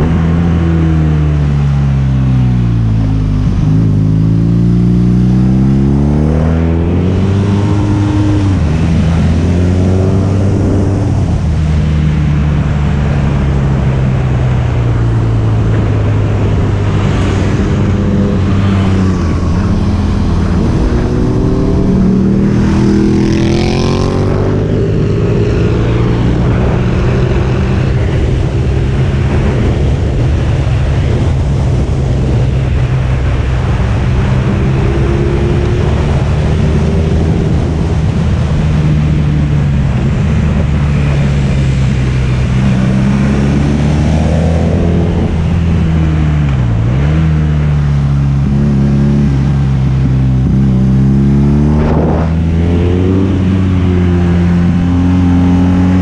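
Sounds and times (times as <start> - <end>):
wind rush on microphone: 0.0 - 56.0.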